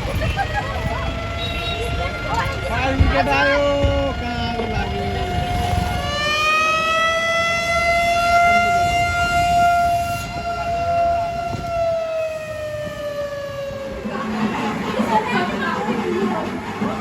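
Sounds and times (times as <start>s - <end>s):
siren wailing: 0.4s - 14.1s.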